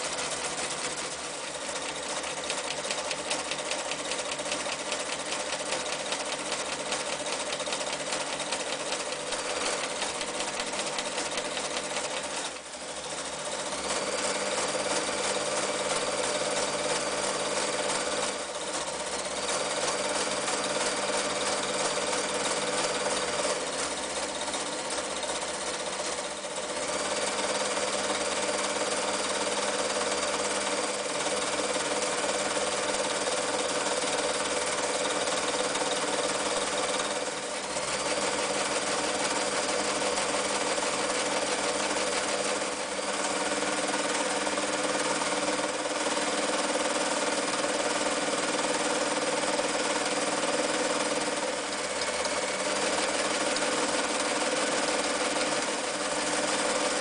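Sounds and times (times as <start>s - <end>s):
sewing machine stitching: 0.0s - 57.0s.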